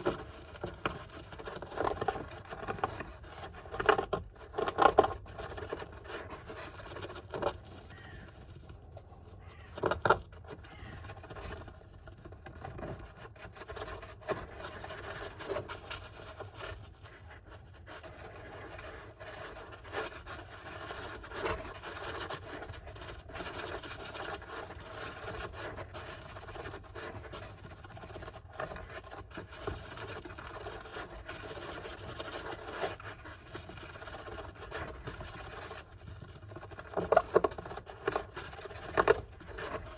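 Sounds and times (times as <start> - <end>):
hamster scratching: 0.0 - 39.9.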